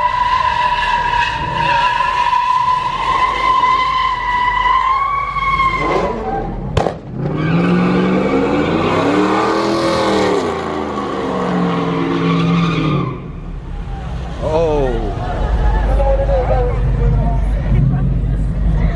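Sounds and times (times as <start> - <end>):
car tyres squealing: 0.0 - 17.8.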